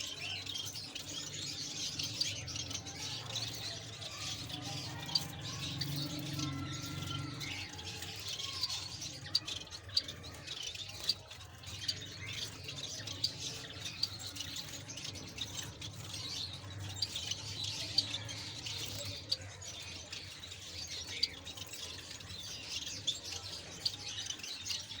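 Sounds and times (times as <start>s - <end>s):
pet birds chirping and squawking: 0.0s - 25.0s.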